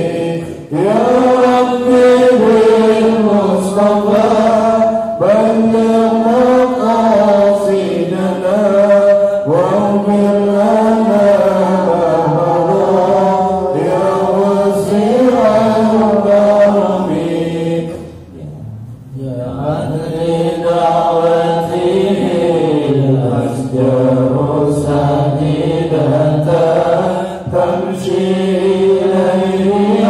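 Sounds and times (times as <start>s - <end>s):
devotional chanting: 0.0s - 30.0s.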